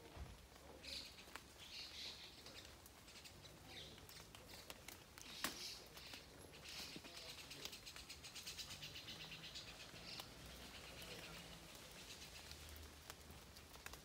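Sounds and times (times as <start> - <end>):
light rain pattering: 0.0 - 14.0.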